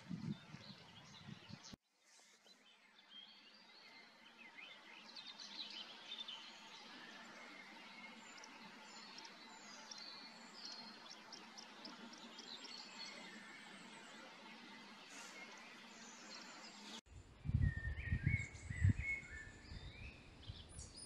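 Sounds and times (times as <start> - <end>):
bird twittering song: 0.0 - 21.0.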